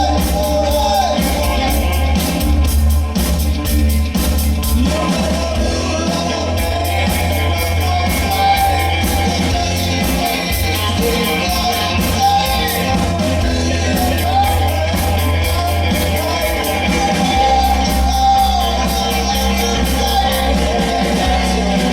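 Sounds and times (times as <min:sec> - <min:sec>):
person singing: 0:00.0 - 0:02.8, 0:04.6 - 0:21.9
bass guitar: 0:00.0 - 0:21.9
drum kit beat: 0:00.0 - 0:21.9
lead guitar: 0:00.0 - 0:21.9.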